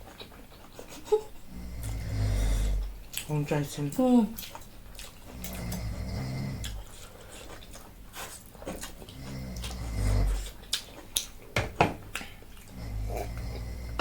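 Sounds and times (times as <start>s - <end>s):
chewing and wet mouth noises: 0.0s - 2.0s, 2.8s - 13.7s.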